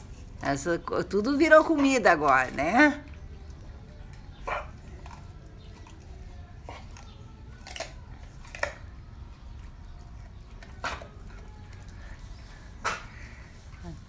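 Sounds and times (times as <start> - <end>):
dog chewing crunchy leaves: 0.0 - 13.1.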